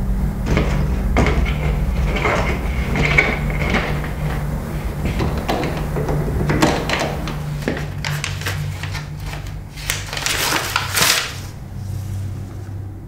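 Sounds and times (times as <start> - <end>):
rattling and scraping noises: 0.0 - 12.8
low droning hum: 0.0 - 13.0.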